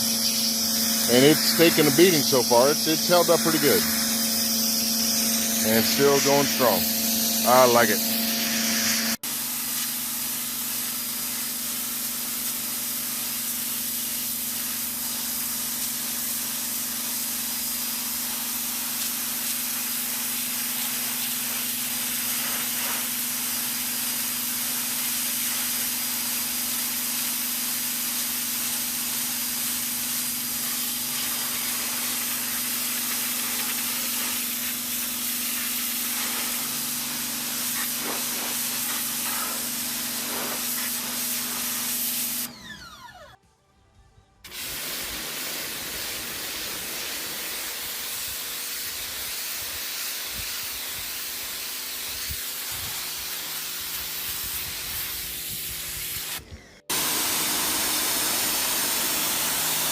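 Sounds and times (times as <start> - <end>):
water jet spraying concrete: 0.0 - 42.5, 44.5 - 59.9
pressure washer motor hum: 0.0 - 43.4, 44.5 - 59.9.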